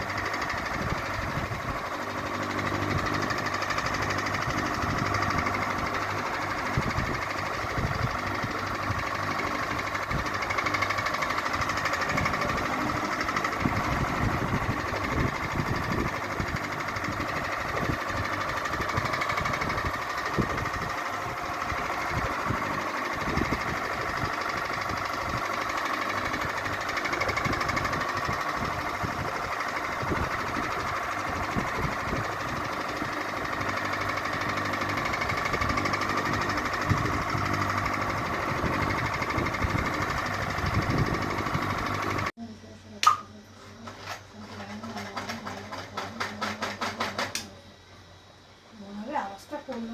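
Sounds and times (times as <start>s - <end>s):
fan knocking rattle: 0.0s - 42.3s, 43.0s - 47.6s
ceiling fan whirring: 0.0s - 49.9s.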